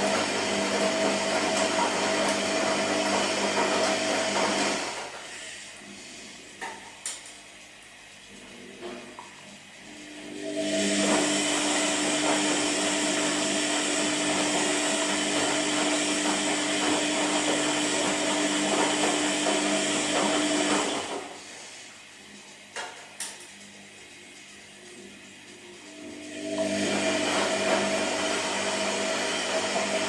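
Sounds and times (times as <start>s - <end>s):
washing machine running: 0.0s - 30.0s.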